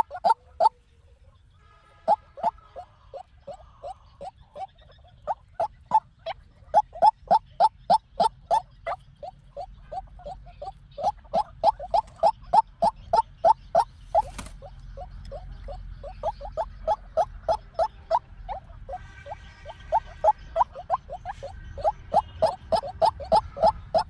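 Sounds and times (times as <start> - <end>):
waterhen calling: 0.0 - 0.8, 1.9 - 24.0.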